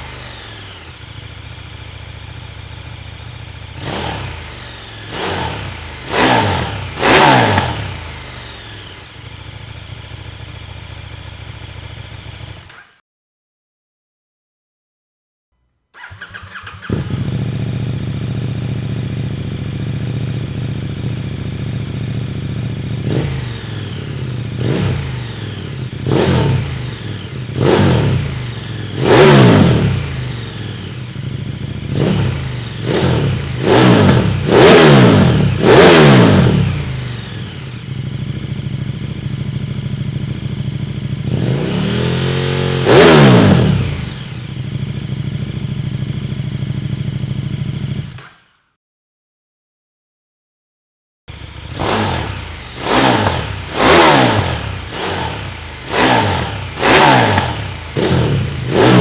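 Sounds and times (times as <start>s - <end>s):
motorcycle engine revving: 0.0s - 12.9s, 16.0s - 48.5s, 51.3s - 59.0s.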